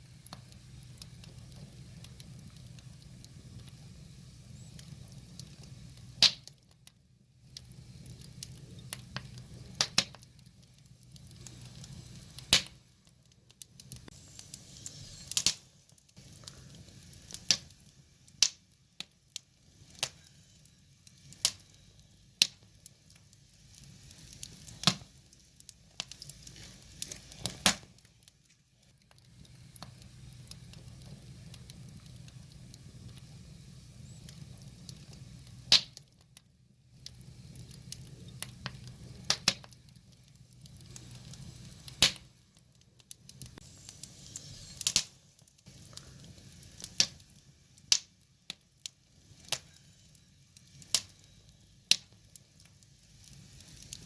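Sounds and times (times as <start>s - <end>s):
flames rushing: 0.0s - 6.6s, 7.4s - 36.1s, 36.9s - 54.0s
wood fire pops and snaps: 0.0s - 54.0s.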